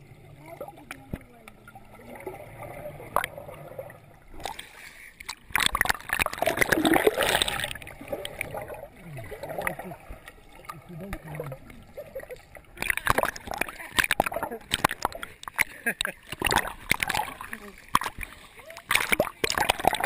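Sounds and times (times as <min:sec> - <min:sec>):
muffled underwater splashing: 0:00.0 - 0:20.0.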